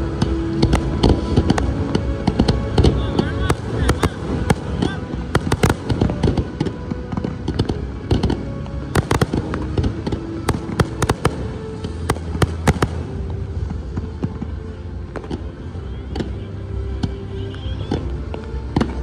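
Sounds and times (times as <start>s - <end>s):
fireworks crackling overhead: 0.0s - 19.0s
fireworks bangs: 0.1s - 17.1s.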